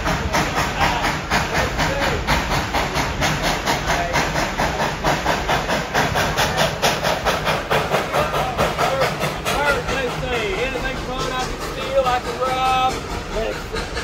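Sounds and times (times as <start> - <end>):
hiss of steam: 0.0 - 14.0
steam locomotive chuffing: 0.0 - 14.0.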